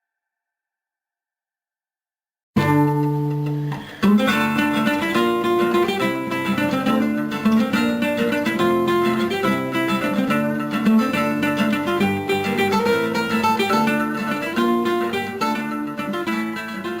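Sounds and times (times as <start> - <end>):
acoustic guitar flamenco-style tune: 2.6 - 17.0.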